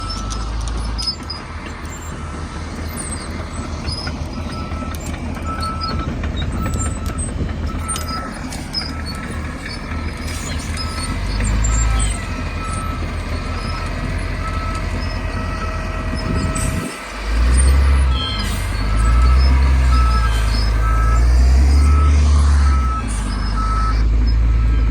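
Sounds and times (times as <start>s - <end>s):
heavy diesel machinery running: 0.0s - 24.9s
reversing alarm beeping: 2.0s - 10.0s, 10.8s - 24.9s.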